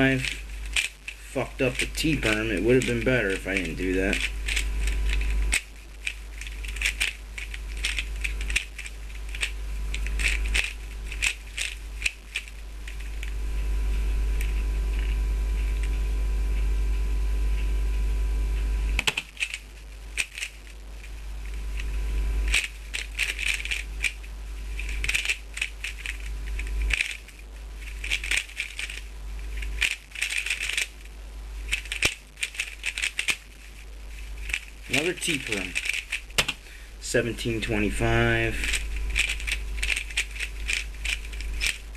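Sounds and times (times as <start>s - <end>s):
puzzle cube clicking and rattling: 0.0s - 13.4s, 14.4s - 16.0s, 19.0s - 21.1s, 21.7s - 36.6s, 37.6s - 41.9s.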